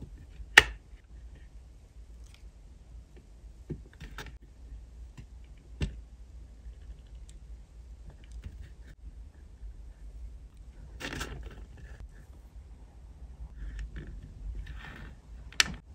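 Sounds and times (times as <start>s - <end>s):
faint low rumble: 0.0s - 15.9s.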